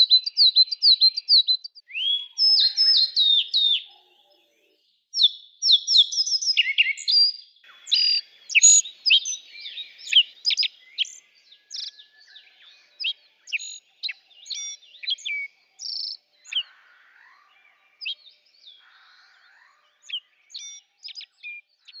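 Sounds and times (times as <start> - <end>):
songbird whistling and trilling: 0.0 - 4.0, 5.2 - 18.8, 19.5 - 22.0.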